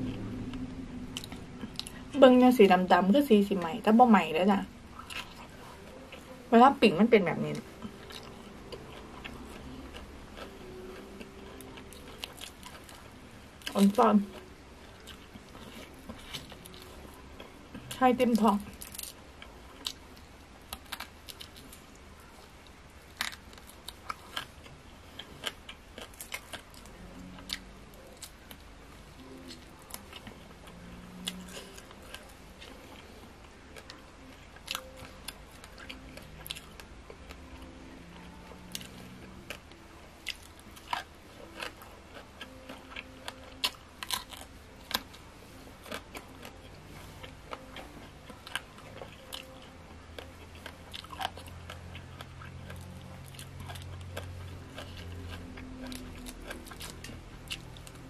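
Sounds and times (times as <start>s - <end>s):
person chewing with crunches: 0.0s - 3.7s, 4.4s - 6.4s, 7.5s - 58.0s.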